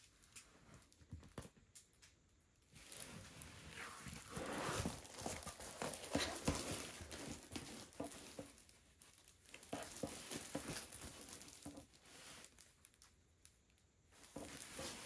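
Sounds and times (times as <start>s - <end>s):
plastic crinkling: 2.7s - 15.0s.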